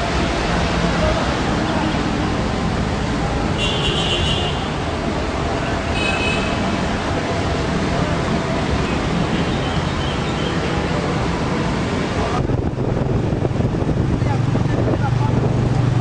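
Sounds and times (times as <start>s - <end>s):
street din of bicycles and traffic: 0.0s - 16.0s.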